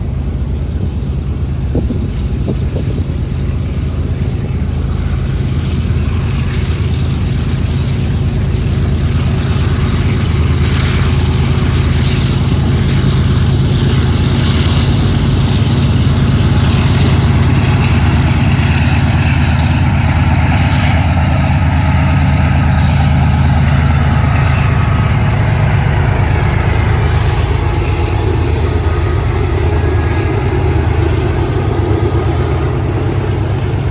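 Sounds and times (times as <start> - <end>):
freight train passing: 0.0 - 33.9
wheel and rail noise: 0.0 - 33.9.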